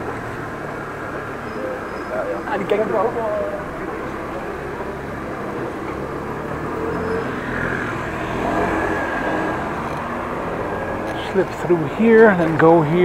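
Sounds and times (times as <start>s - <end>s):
passing traffic: 0.0s - 13.0s.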